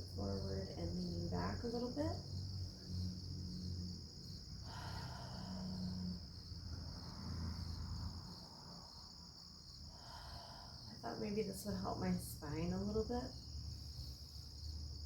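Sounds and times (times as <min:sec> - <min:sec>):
faint low rumble: 0:00.0 - 0:15.0
insect chorus drone: 0:00.0 - 0:15.0.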